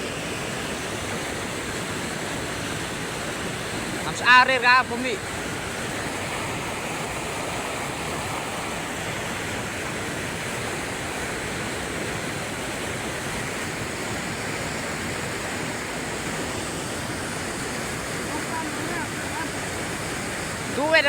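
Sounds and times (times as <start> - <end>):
fast-flowing water rushing: 0.0 - 21.0.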